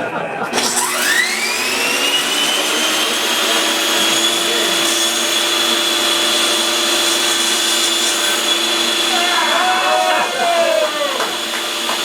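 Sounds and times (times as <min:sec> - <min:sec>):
table saw high whine: 0:00.5 - 0:12.0.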